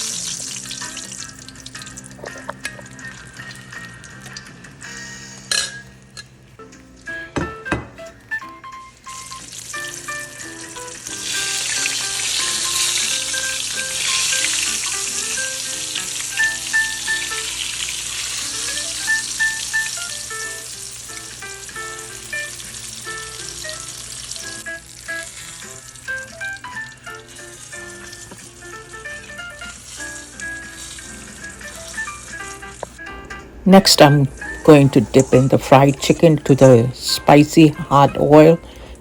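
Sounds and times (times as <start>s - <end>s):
chicken deep-frying in oil: 0.0s - 7.4s, 8.1s - 33.0s
light background music: 0.0s - 39.0s.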